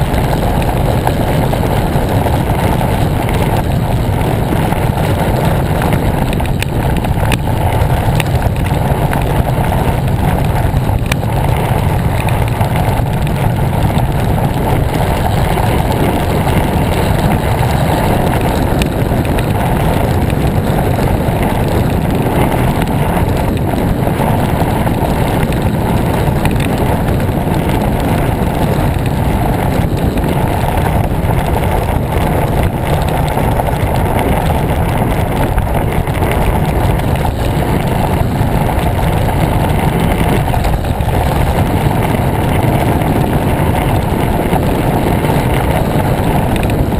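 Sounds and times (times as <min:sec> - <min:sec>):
tyre and road noise: 0:00.0 - 0:46.9
wind buffeting microphone: 0:00.0 - 0:46.9.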